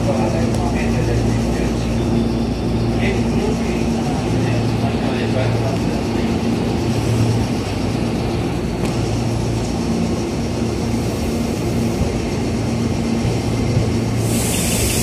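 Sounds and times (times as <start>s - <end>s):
electric train equipment humming: 0.0s - 15.0s.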